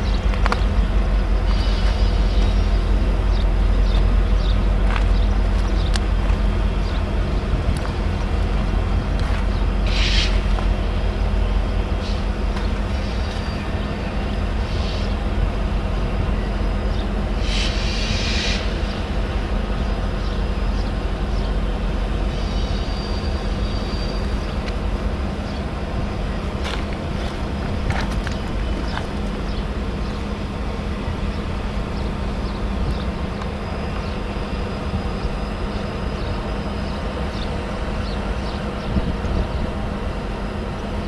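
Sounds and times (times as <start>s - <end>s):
diesel locomotive rumble: 0.0s - 41.0s
freight cars rolling on rails: 0.0s - 41.0s.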